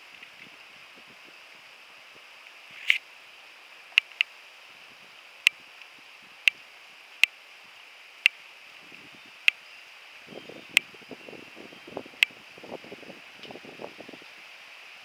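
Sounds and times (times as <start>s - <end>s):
water and wind hiss: 0.0s - 15.0s.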